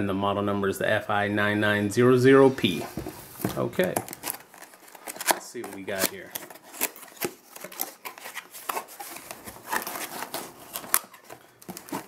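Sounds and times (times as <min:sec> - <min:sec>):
cardboard rustling and scraping: 0:02.2 - 0:12.0.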